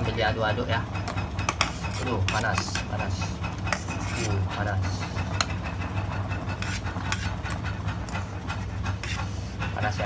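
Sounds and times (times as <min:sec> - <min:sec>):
water boiling rumble: 0:00.0 - 0:10.0.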